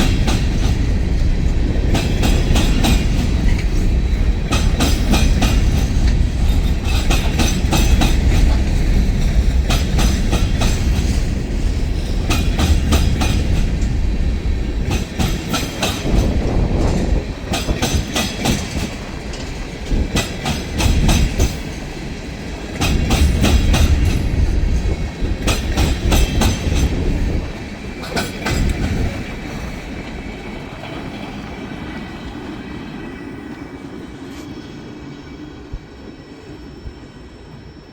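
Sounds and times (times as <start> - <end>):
train wheels clacking over rail joints: 0.0 - 31.3
low rumble of freight train: 0.0 - 37.9.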